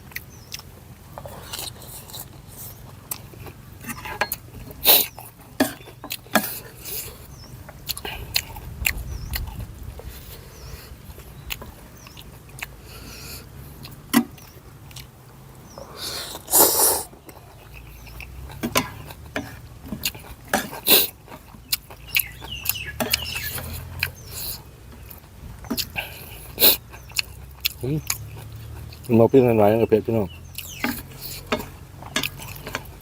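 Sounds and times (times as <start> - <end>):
person chewing and smacking: 0.0 - 29.6, 30.3 - 33.0.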